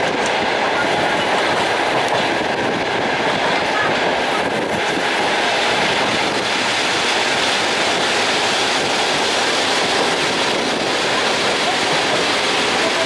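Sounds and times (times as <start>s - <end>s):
train running along track: 0.0s - 13.0s.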